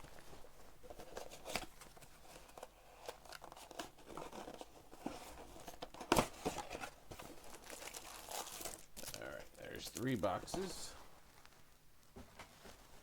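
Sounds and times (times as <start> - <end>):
packing material rustling and tearing: 0.9 - 11.4.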